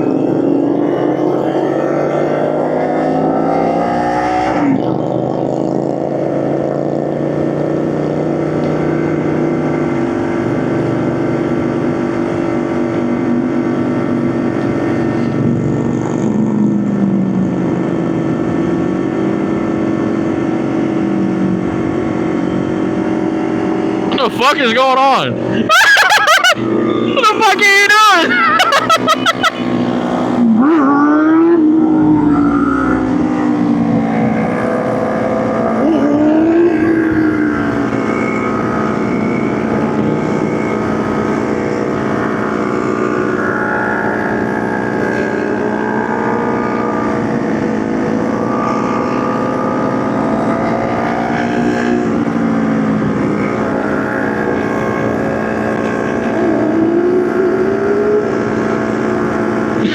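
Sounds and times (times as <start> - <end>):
motorcycle engine revving: 0.0 - 24.6, 25.2 - 59.9.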